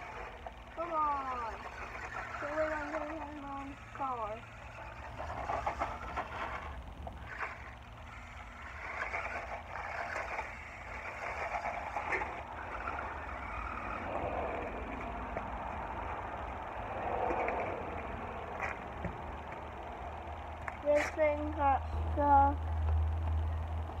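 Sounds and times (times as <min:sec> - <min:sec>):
toy car driving on gravel: 0:00.0 - 0:22.6
steady low rumble: 0:00.0 - 0:24.0.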